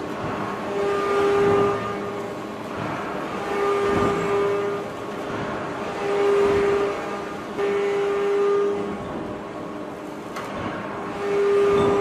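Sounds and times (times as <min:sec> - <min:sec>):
forging press machine hum: 0:00.0 - 0:12.0.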